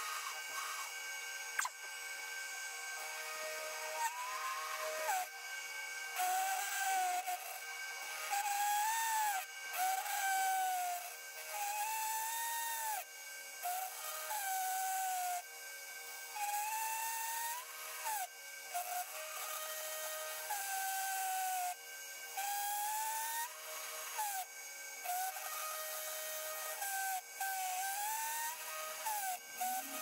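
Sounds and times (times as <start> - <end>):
milling machine whining: 0.0 - 30.0.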